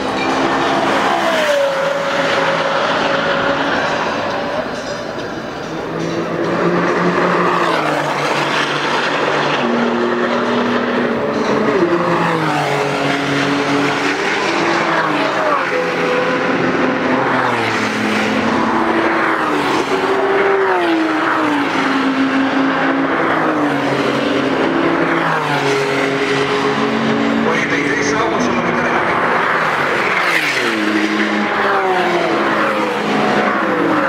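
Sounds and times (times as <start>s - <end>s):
sports car engines revving: 0.0s - 34.0s.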